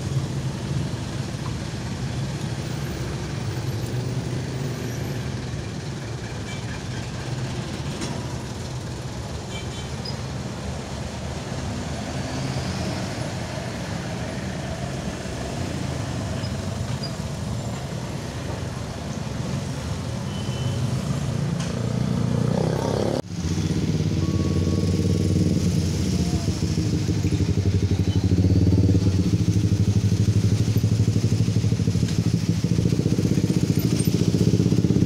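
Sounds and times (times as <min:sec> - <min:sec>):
vehicle engines idling and passing: 0:00.0 - 0:35.0.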